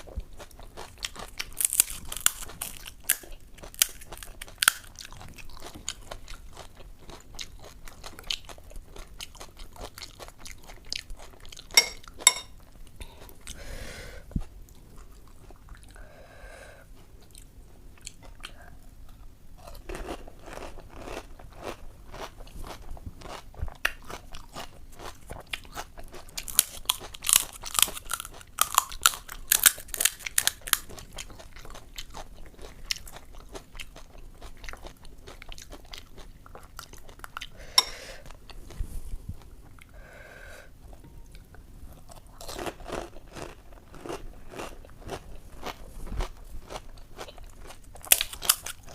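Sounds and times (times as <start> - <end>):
crunching and chewing crisp shells: 0.0 - 13.6, 14.2 - 16.0, 16.8 - 38.8, 40.8 - 48.9.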